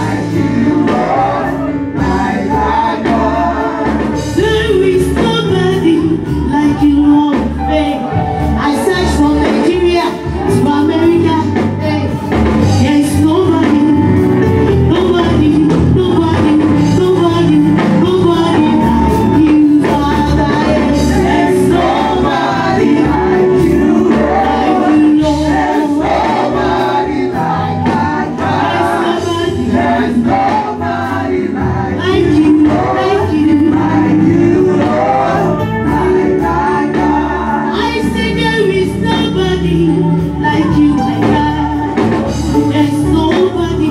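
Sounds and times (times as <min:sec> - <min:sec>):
band with steady beat: 0:00.0 - 0:43.9
gospel group singing: 0:00.0 - 0:43.9.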